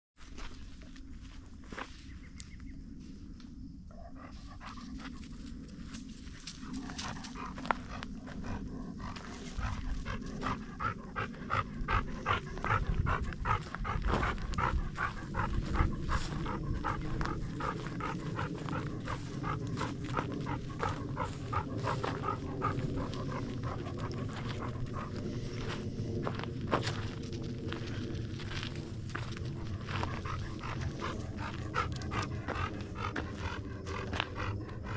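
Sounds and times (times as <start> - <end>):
dog panting rapidly: 4.1 - 5.7, 6.3 - 34.9.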